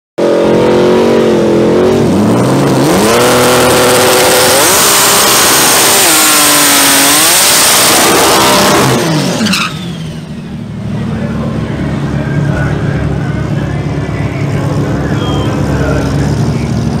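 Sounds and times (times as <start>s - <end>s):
car engine revving: 0.2s - 17.0s.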